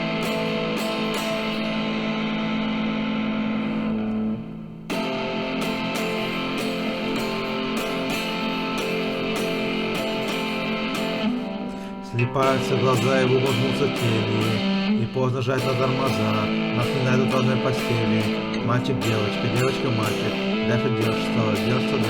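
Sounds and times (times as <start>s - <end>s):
distorted electric guitar rock: 0.0s - 22.0s.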